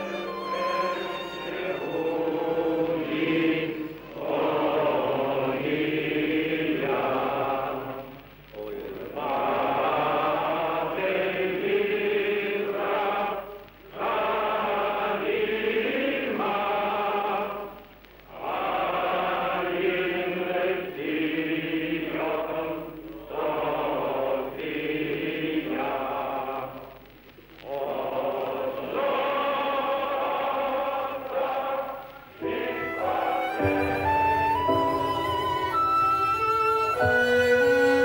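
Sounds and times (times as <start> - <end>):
slow sung chant: 0.0 - 38.0.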